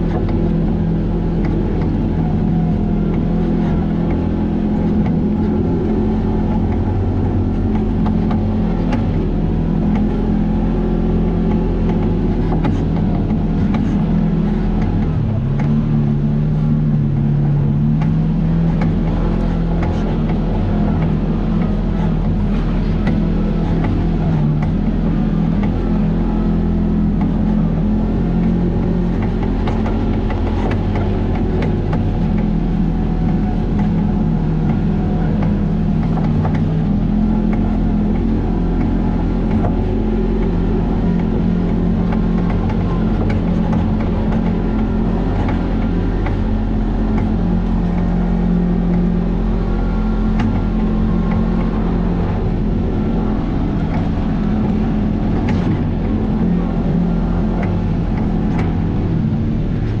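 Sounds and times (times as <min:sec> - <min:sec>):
vehicle engine running: 0:00.0 - 1:00.0.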